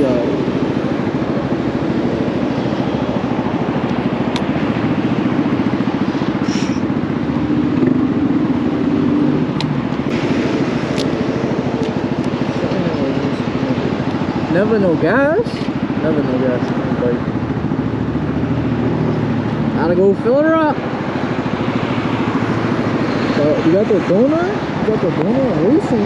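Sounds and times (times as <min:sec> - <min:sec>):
small motorcycle engine running: 0:00.0 - 0:26.0.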